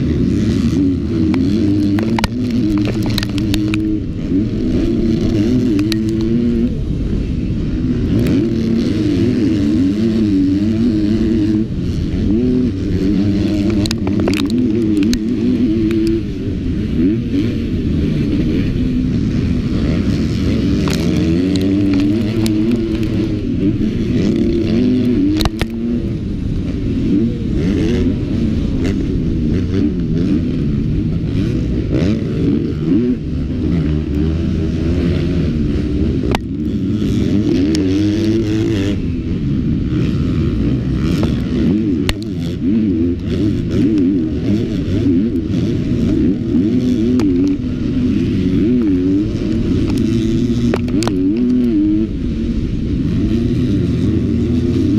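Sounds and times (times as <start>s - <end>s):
motocross bike engine revving: 0.0s - 54.9s.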